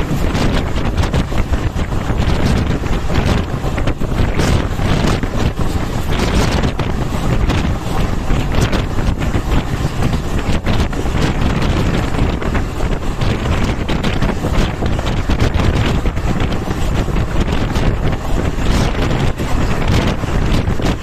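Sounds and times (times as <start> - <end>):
train wheels rumbling on track: 0.0 - 21.0
wind buffeting microphone: 0.0 - 21.0.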